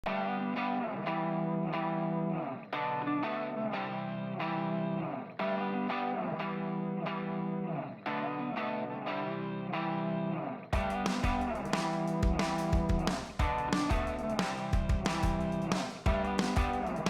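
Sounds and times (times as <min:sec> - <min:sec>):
guitar-led tune: 0:00.0 - 0:17.0.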